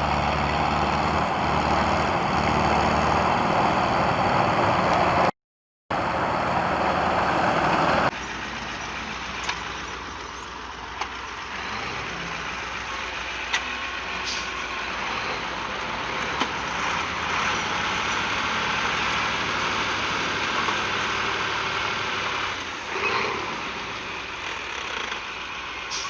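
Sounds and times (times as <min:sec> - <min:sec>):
heavy vehicle engine running: 0:00.0 - 0:05.3, 0:05.9 - 0:26.0.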